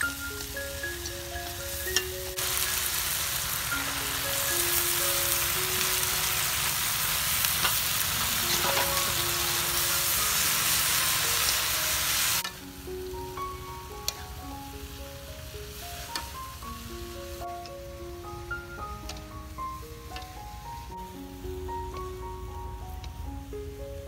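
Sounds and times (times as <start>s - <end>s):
greens sizzling in a wok: 0.0s - 24.0s
light background music: 0.0s - 24.0s.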